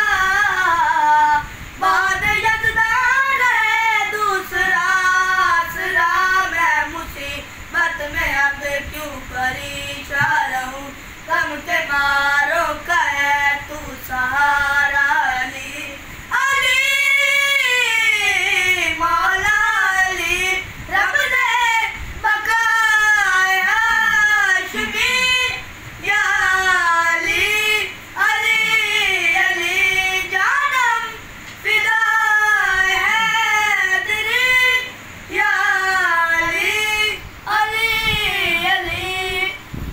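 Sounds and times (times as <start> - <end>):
boys singing unaccompanied: 0.0 - 39.7.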